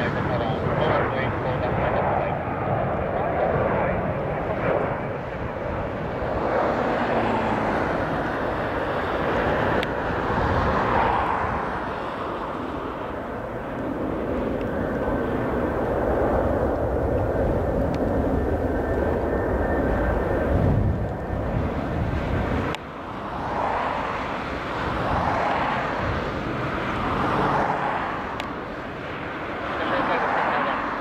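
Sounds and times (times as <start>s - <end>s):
jet engine rushing noise: 0.0s - 31.0s.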